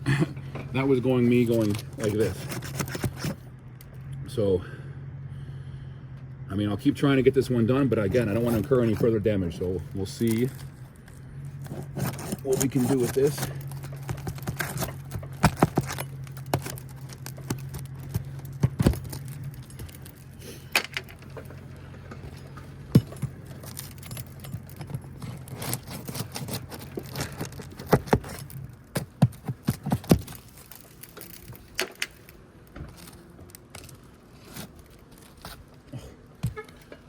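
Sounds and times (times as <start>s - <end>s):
steady low hum: 0.0s - 37.0s
roofing tool scraping shingles: 0.7s - 3.4s, 7.3s - 37.0s.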